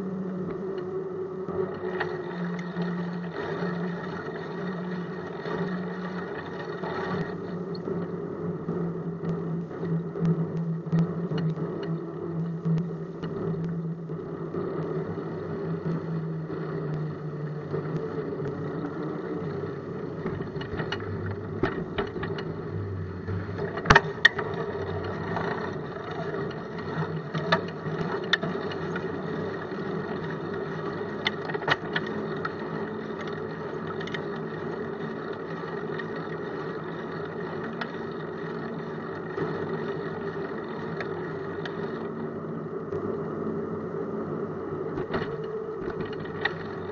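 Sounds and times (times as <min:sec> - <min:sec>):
bike clicks and rattles: 0:00.0 - 0:43.3, 0:44.8 - 0:46.9
bicycle rolling over pavement: 0:00.0 - 0:46.9.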